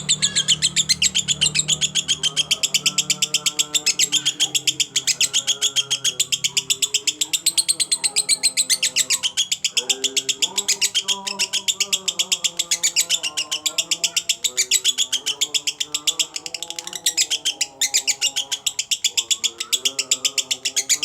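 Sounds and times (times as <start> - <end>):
bird chirping rapidly: 0.0 - 21.0.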